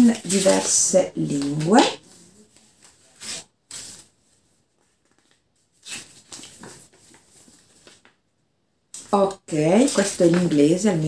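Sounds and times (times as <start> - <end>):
paper rustling and crinkling: 0.0 - 8.2, 9.0 - 11.0.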